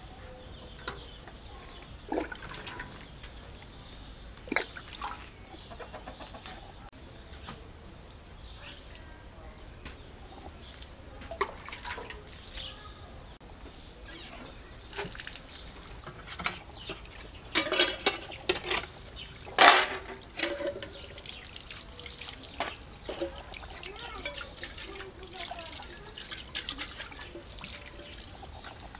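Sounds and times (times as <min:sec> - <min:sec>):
water splashing onto paving stones: 0:00.6 - 0:06.0, 0:07.5 - 0:09.2, 0:09.9 - 0:13.4, 0:14.1 - 0:28.9.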